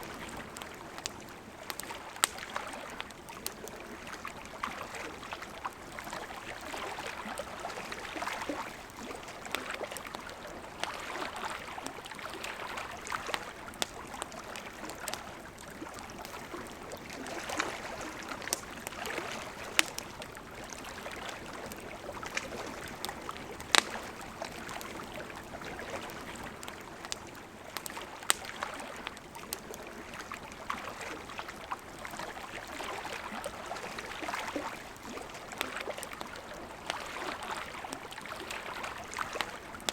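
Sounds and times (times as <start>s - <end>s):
campfire crackling and popping: 0.0s - 39.9s
river babbling: 0.0s - 39.9s.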